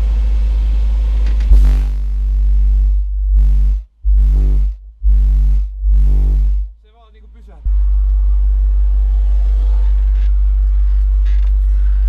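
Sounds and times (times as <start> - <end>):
bass-heavy electronic music: 0.0 - 12.0.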